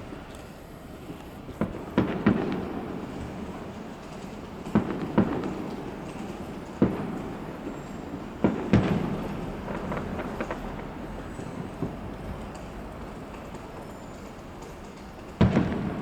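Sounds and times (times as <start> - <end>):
fireworks bangs with echo: 0.0 - 16.0
fireworks crackling pops: 0.0 - 16.0.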